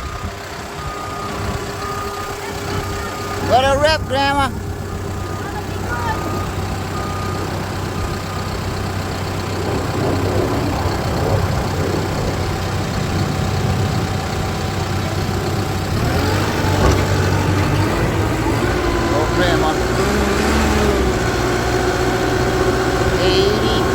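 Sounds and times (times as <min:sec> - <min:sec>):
bulldozer diesel engine running: 0:00.0 - 0:23.9.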